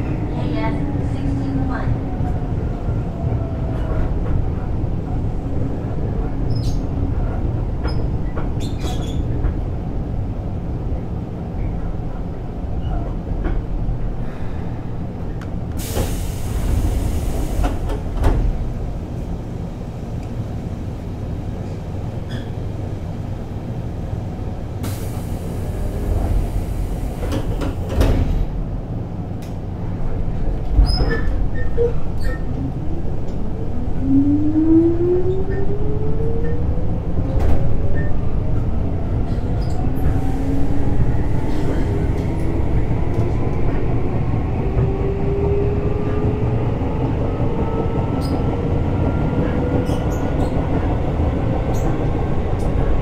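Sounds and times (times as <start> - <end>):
rumble of wheels on track: 0.0 - 53.0.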